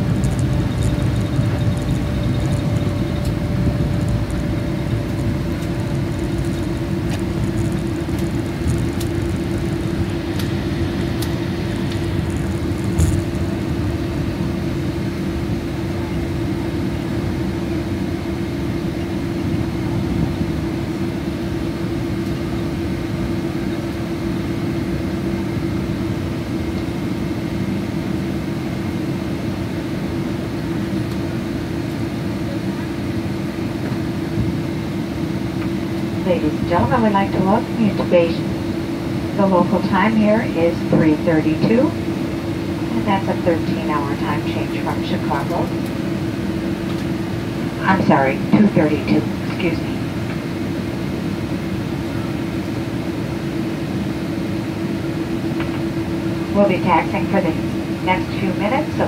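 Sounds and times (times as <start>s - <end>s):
airliner cabin rumble: 0.0s - 59.0s
constant hum: 0.0s - 59.0s.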